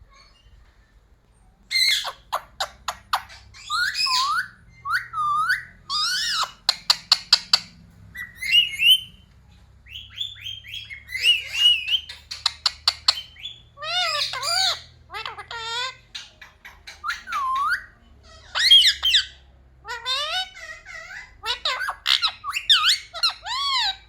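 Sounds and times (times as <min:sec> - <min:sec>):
parrot whistling and chattering: 0:01.7 - 0:09.2, 0:09.9 - 0:24.0.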